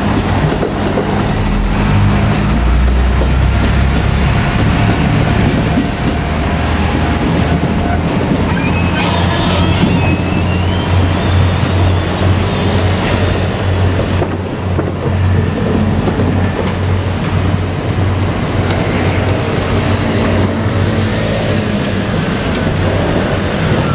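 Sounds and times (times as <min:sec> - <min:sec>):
diesel railcar engine drone: 0:00.0 - 0:23.9
train rumble: 0:00.0 - 0:23.9.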